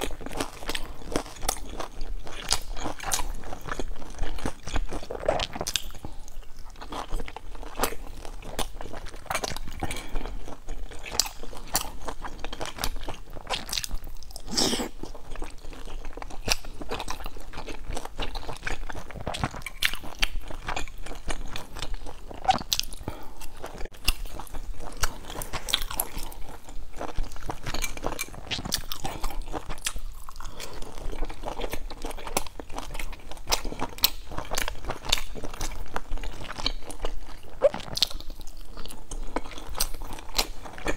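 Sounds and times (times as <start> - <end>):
crisp chewing crunches: 0.0 - 40.9.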